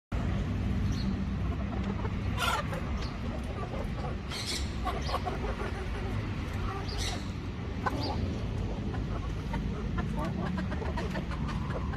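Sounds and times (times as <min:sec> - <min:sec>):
chickens clucking: 0:01.0 - 0:11.9.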